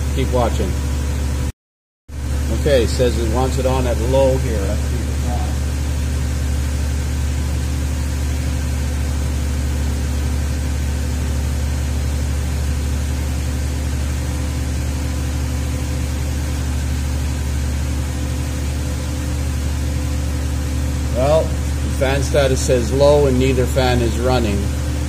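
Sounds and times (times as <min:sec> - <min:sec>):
car engine running: 0:00.0 - 0:01.5, 0:02.1 - 0:25.0.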